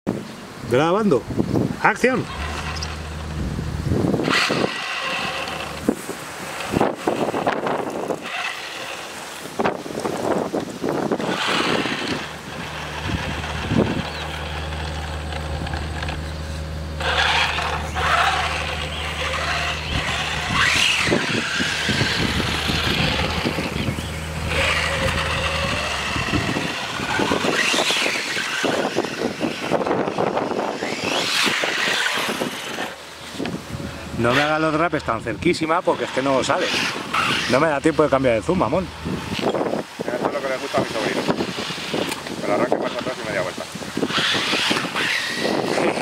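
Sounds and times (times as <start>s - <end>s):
tyre noise on asphalt: 1.3s - 40.0s
rc car motor whining past: 1.9s - 46.0s.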